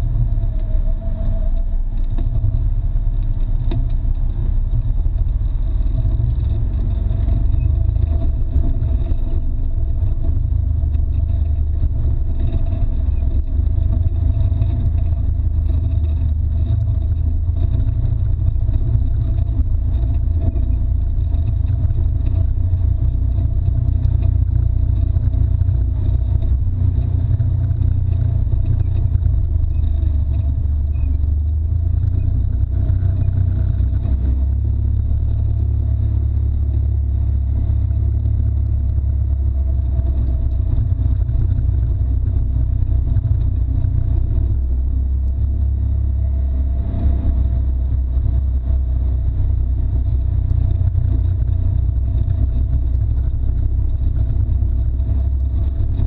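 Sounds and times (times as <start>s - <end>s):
off-road vehicle engine droning: 0.0s - 56.0s.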